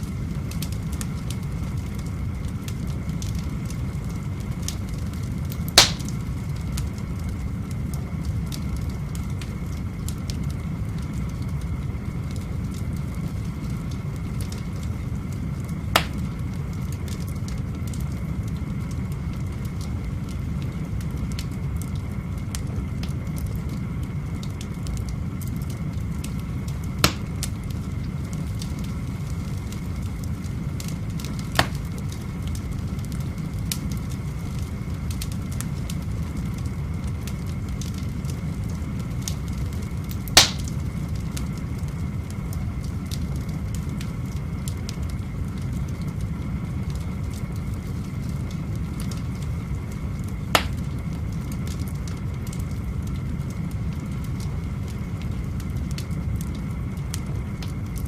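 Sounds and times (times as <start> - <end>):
fire crackling and popping: 0.0 - 58.0
firewood burning: 0.0 - 58.0.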